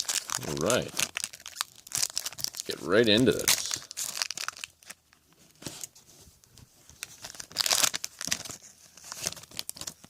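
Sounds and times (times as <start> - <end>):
wrapper being torn and crinkled: 0.0 - 5.2, 7.0 - 10.0.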